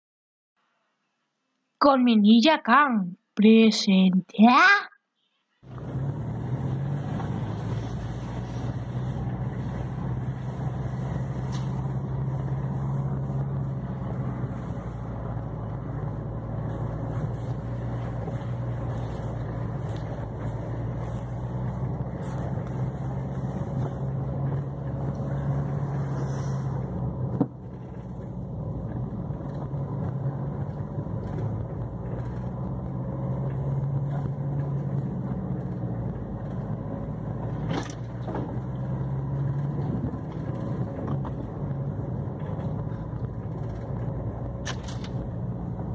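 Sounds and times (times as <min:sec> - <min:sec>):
car engine and tyre drone: 0:05.6 - 0:45.9.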